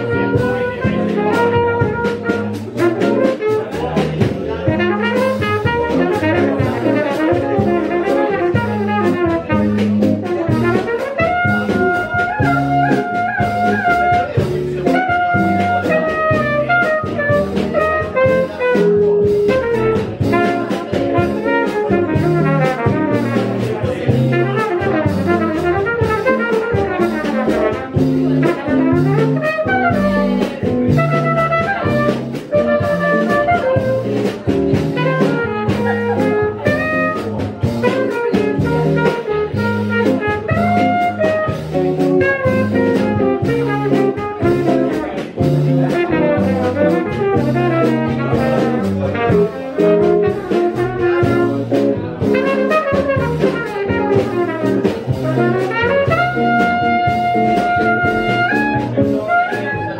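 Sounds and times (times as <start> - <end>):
trumpet melody: 0.0 - 4.0, 4.6 - 59.9
jazz guitar: 0.0 - 59.9
walking double bass: 0.0 - 59.9.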